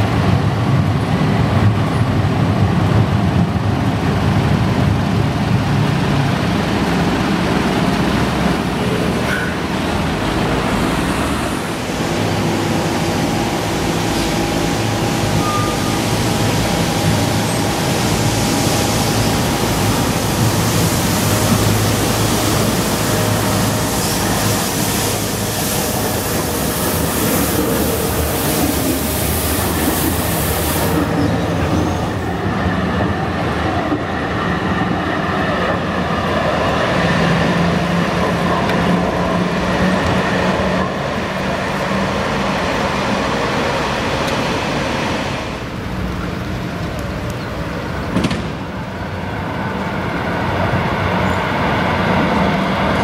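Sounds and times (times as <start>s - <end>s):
tram motor hum and whine: 0.0s - 53.0s
tram wheels rolling on rails: 0.0s - 53.0s.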